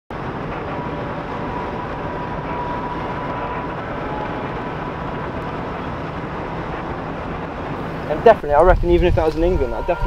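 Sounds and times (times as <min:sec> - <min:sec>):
faint steady whine: 0:00.1 - 0:10.0
vehicle road and engine noise: 0:00.1 - 0:10.0.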